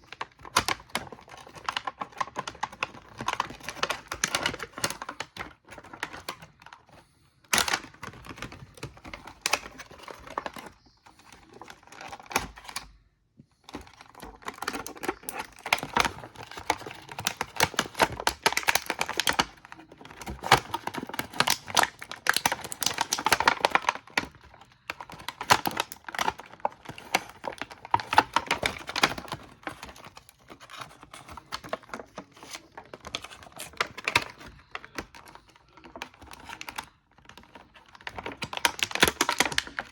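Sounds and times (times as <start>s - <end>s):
plastic clicking and rattling: 0.0s - 39.9s.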